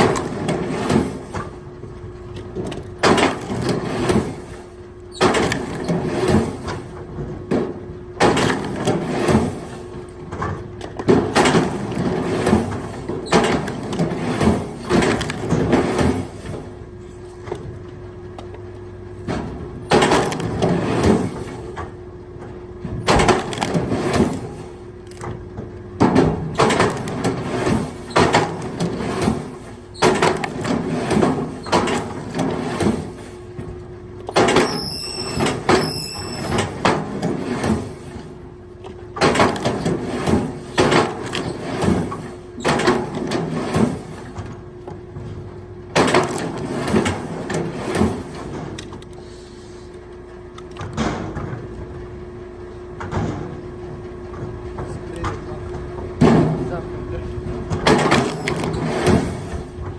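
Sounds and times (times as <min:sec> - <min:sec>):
steady motor hum: 0:00.0 - 0:59.9.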